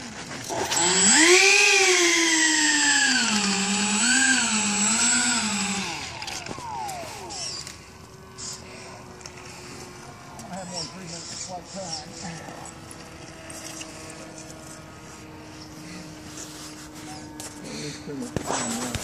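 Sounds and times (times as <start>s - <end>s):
electric fan motors whining: 0.0s - 19.0s.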